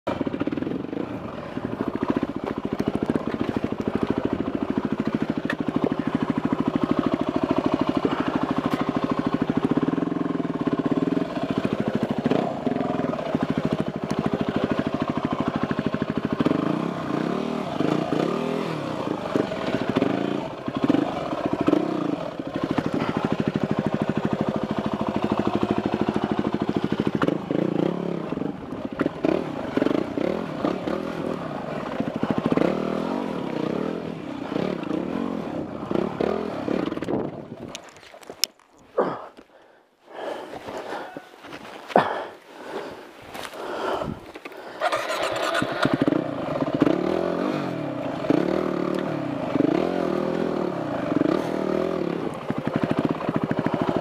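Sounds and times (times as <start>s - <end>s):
dirt bike engine revving: 0.1s - 37.5s, 43.4s - 54.0s.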